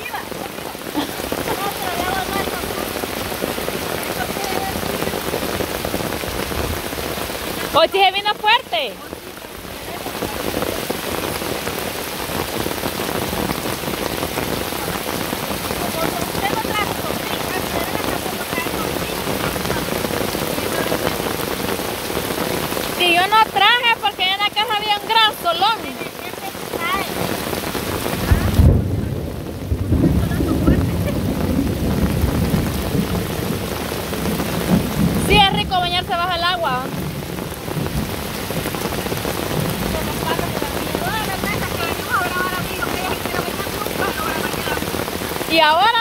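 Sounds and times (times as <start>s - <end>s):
thunder rumbling: 0.0s - 8.0s, 8.7s - 46.0s
heavy rain pouring: 0.0s - 46.0s.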